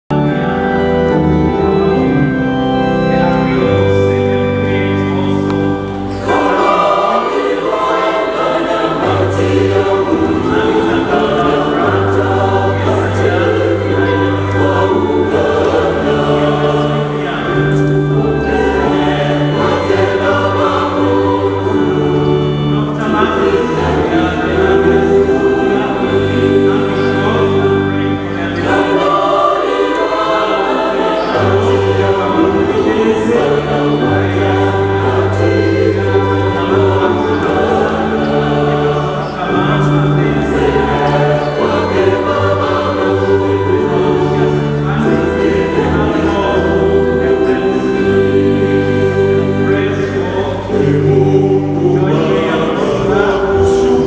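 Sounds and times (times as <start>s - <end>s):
choir singing a hymn: 0.1s - 54.0s.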